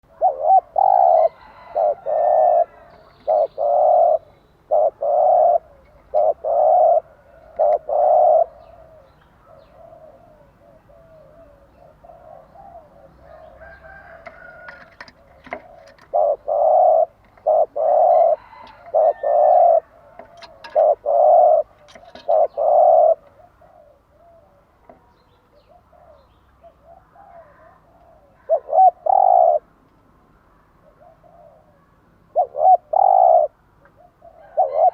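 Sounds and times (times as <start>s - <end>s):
dove cooing: 0.0s - 29.7s, 30.8s - 34.9s.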